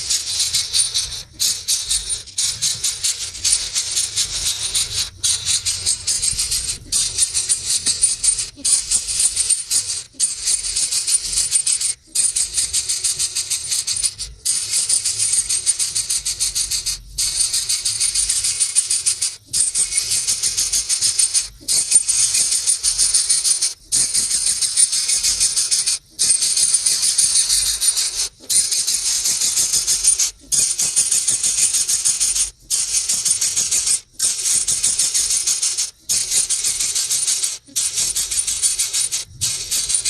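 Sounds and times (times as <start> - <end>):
small bird rattling chatter: 0.0 - 40.0.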